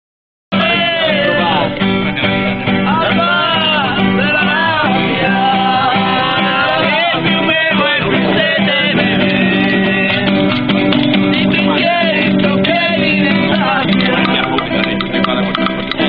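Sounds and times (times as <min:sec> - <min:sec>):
person singing: 0:00.5 - 0:01.8, 0:02.8 - 0:10.6, 0:11.3 - 0:16.0
guitar accompaniment: 0:00.5 - 0:16.0.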